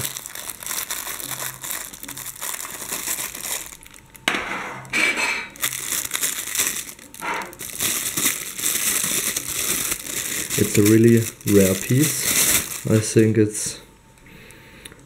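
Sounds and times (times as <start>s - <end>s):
packaging crinkling and rustling: 0.0s - 4.3s, 5.5s - 13.6s.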